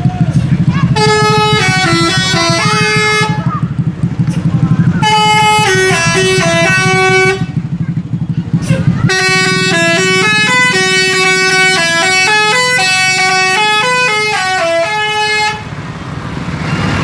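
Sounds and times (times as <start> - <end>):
bus air horns playing tune: 0.3 - 3.8, 4.4 - 7.8, 8.6 - 15.8.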